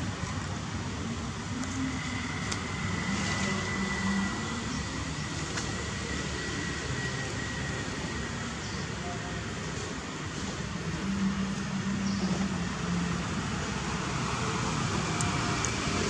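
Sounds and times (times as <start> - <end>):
faint high steady whine: 0.0 - 16.0
low rumble and hiss: 0.0 - 16.0.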